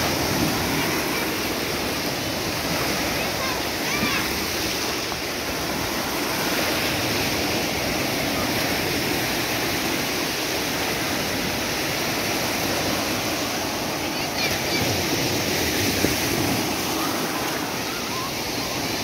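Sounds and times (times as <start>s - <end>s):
foamy water washing over shallows: 0.0s - 19.0s
small waves breaking: 0.0s - 19.0s.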